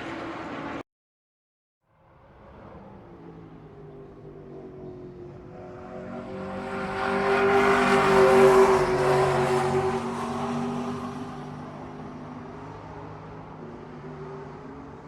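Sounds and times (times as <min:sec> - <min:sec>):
race car engine passing by: 0:02.1 - 0:15.0.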